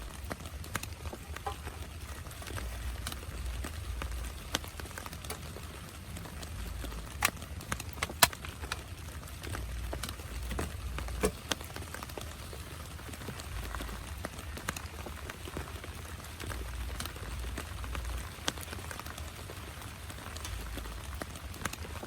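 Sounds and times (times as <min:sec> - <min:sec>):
raindrops tapping on a tent: 0:00.0 - 0:22.0.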